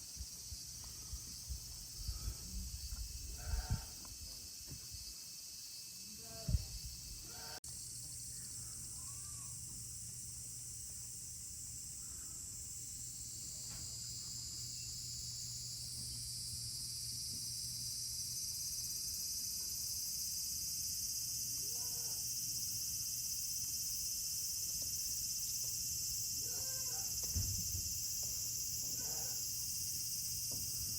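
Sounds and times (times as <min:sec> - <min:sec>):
insects droning: 0:00.0 - 0:30.9.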